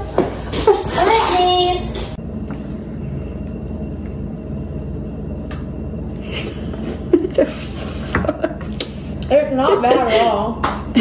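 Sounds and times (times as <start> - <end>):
low room hum and rumble: 0.0 - 11.0.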